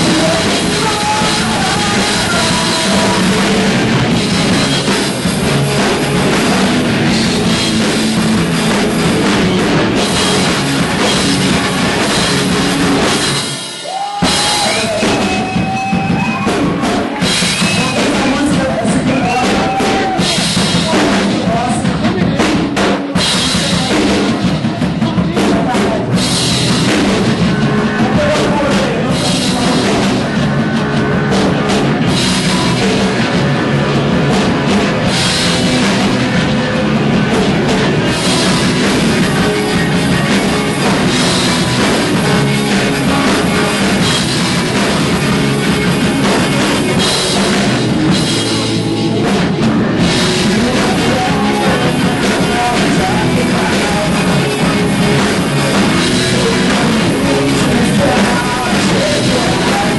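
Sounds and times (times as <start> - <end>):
bass drum: 0.0 - 59.9
live rock band playing: 0.0 - 59.9.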